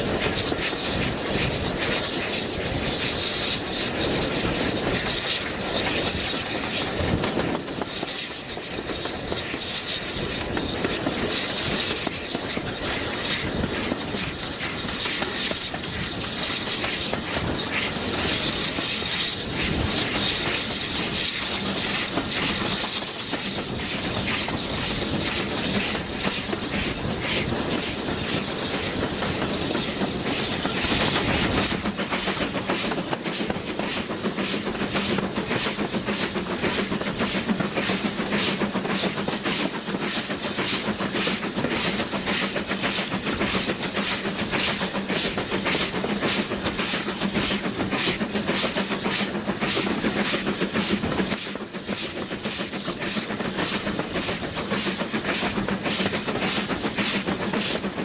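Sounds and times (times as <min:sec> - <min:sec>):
steam train rumble: 0:00.0 - 0:58.0.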